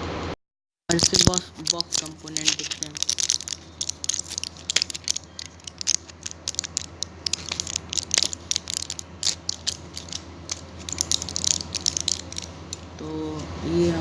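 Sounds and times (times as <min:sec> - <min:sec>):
packaging clicks scrapes and rustles: 0:00.9 - 0:13.0.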